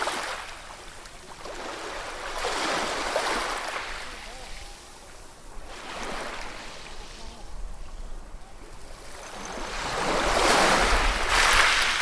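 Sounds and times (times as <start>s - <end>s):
ocean waves breaking on shore: 0.0s - 12.0s.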